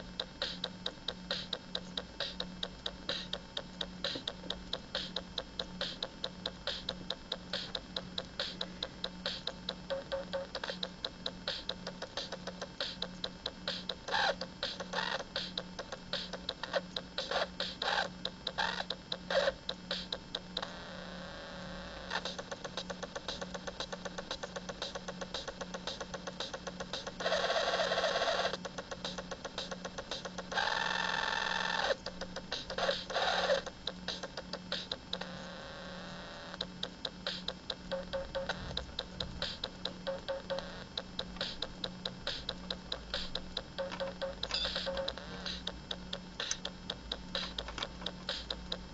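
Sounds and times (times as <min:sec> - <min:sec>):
electronic ticks and clicks: 0:00.0 - 0:20.8, 0:22.0 - 0:35.5, 0:36.1 - 0:48.9
low pulsing hum: 0:00.0 - 0:27.3, 0:28.5 - 0:48.9
harsh electronic buzzing: 0:00.0 - 0:48.9.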